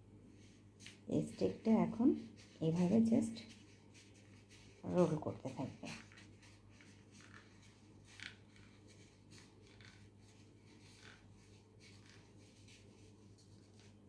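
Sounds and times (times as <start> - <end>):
low steady hum: 0.0 - 14.0
paper rustling and crinkling: 2.2 - 14.0.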